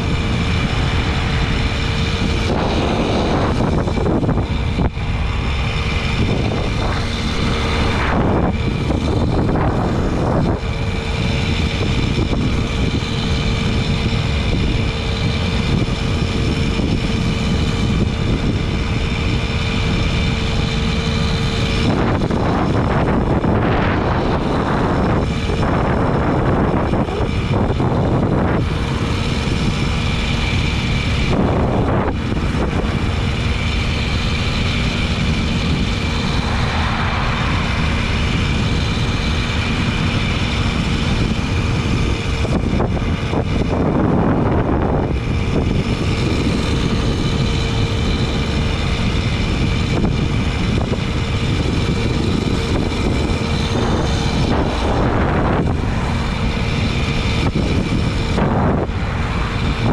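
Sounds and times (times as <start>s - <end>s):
moped engine buzzing: 0.0s - 59.9s
wind rush on microphone: 0.0s - 59.9s.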